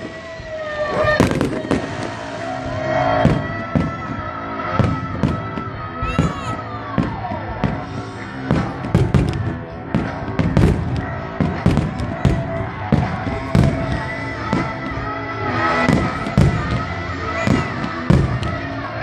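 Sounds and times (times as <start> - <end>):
loud pop music with singing: 0.0 - 19.0.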